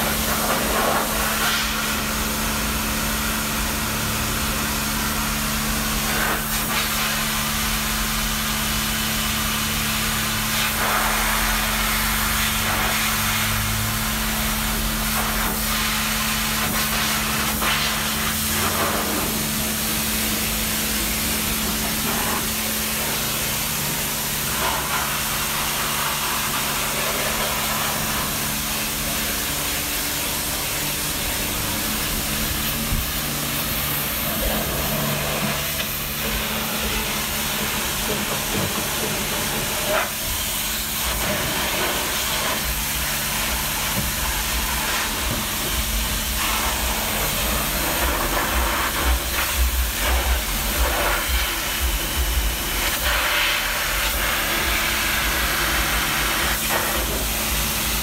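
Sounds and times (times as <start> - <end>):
pressure washer spraying water: 0.0 - 58.0.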